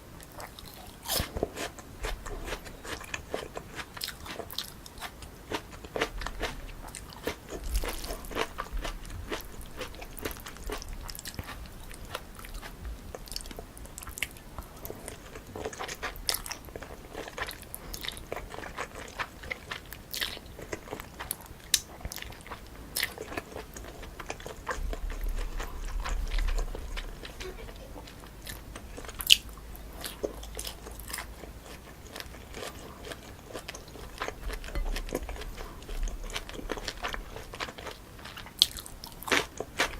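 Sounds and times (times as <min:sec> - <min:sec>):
chewing crunchy noodles: 0:00.2 - 0:39.9.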